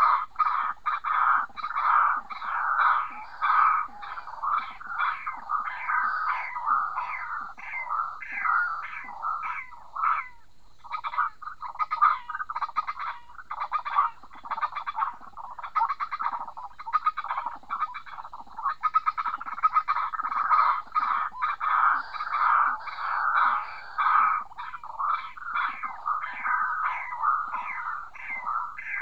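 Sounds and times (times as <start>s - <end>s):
waterhens croaking calls: 0.0s - 29.0s.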